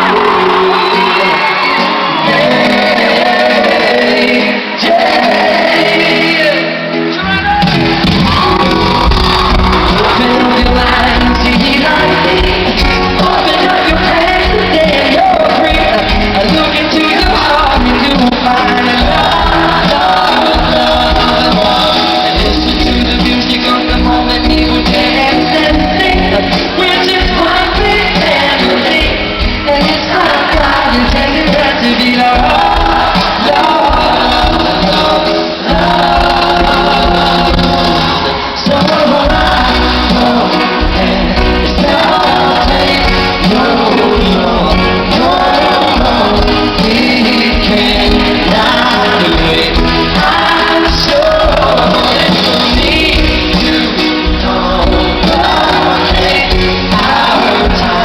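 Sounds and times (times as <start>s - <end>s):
live pop band: 0.0s - 58.0s
person singing: 0.0s - 58.0s.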